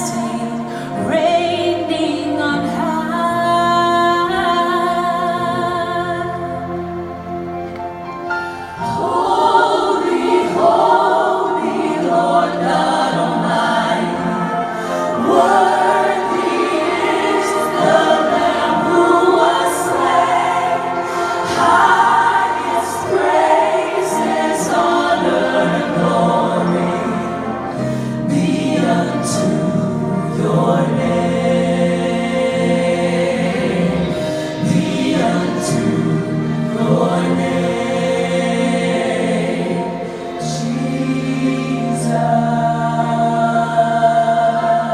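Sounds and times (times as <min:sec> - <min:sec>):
choir singing with accompaniment: 0:00.0 - 0:44.9.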